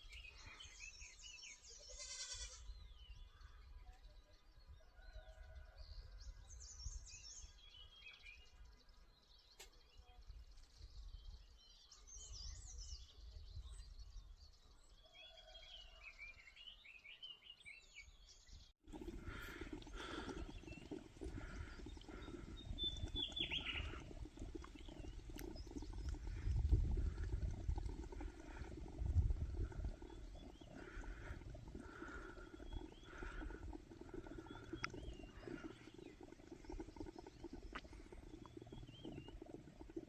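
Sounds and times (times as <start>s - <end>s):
small birds chirping and trilling: 0.0s - 40.0s.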